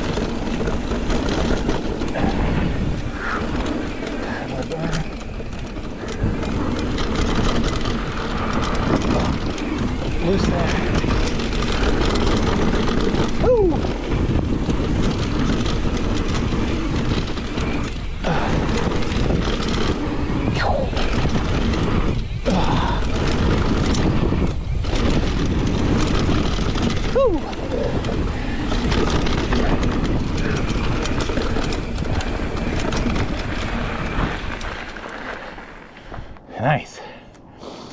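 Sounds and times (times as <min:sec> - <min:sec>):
wind on microphone: 0:00.0 - 0:36.5
bike tyres on dirt trail: 0:00.0 - 0:37.9.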